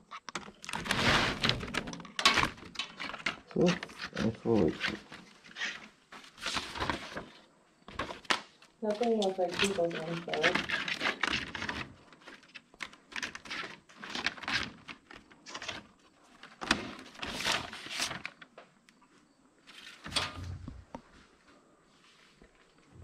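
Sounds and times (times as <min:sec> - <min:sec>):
papers rustling: 0:00.4 - 0:18.6, 0:19.7 - 0:20.8.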